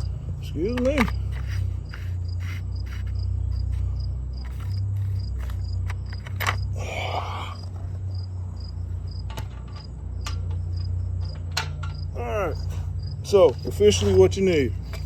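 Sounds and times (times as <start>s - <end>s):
crickets chirping: 0.0s - 15.0s
steady low hum: 0.0s - 15.0s.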